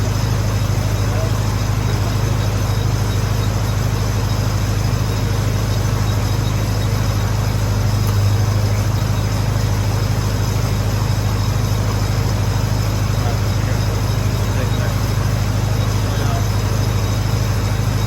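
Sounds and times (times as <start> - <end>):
gasoline engine running: 0.0 - 18.0.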